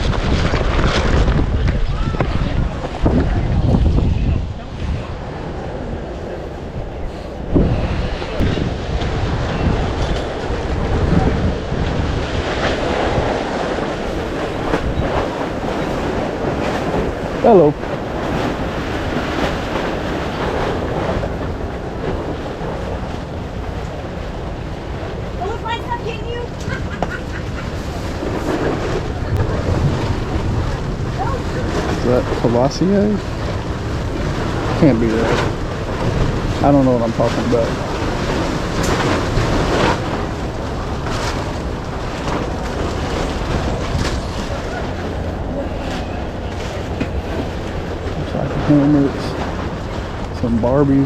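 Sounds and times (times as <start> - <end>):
rain: 0.0 - 6.8, 7.4 - 51.0
wind buffeting microphone: 0.0 - 51.0.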